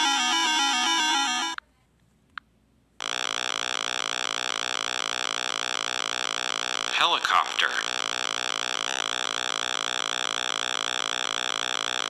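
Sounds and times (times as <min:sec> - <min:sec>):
synthesized helicopter buzz: 0:00.0 - 0:01.6, 0:03.0 - 0:12.0.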